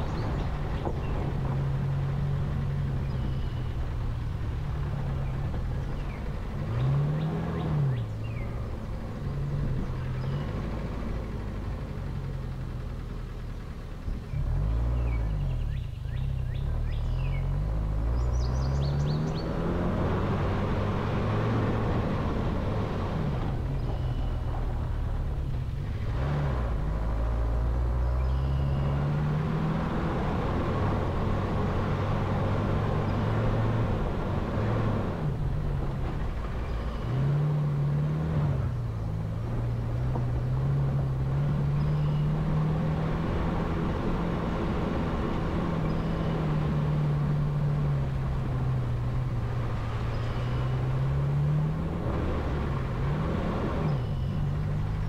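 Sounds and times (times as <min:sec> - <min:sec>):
road and tyre noise: 0:00.0 - 0:55.0
vehicle engine revving: 0:00.0 - 0:55.0.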